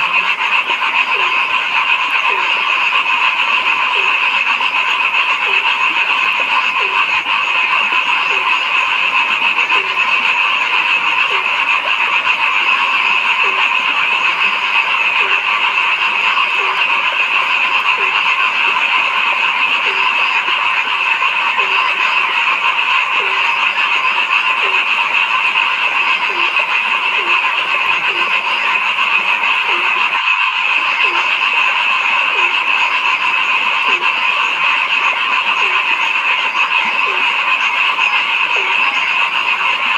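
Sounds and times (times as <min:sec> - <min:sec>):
chorus of frogs calling: 0:00.0 - 0:39.9
low frog croaks: 0:00.0 - 0:39.9.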